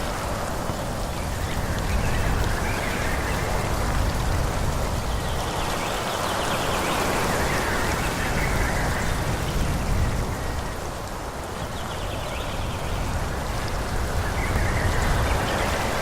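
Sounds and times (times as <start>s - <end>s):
rushing forest ambience: 0.0s - 16.0s.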